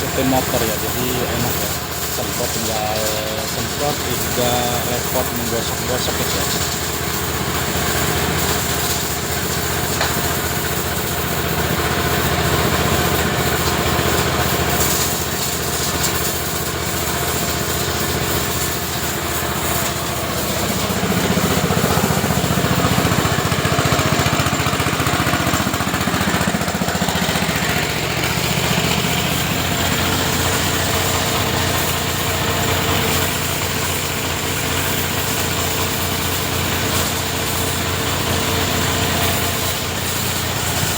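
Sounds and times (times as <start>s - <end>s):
pressure washer motor humming: 0.0s - 40.9s
water jet hissing: 0.0s - 40.9s.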